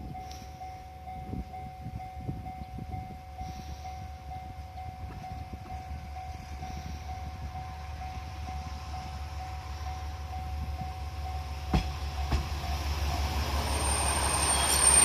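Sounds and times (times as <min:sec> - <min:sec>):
level-crossing warning bell ringing: 0:00.0 - 0:15.0.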